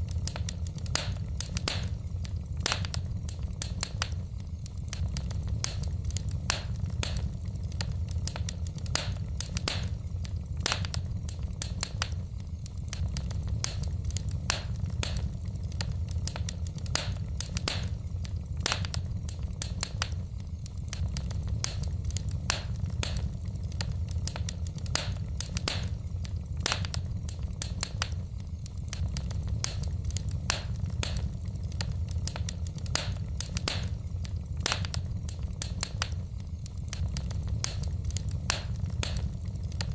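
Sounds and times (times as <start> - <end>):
fire burning: 0.0 - 39.9
logs crackling and popping: 0.0 - 39.9.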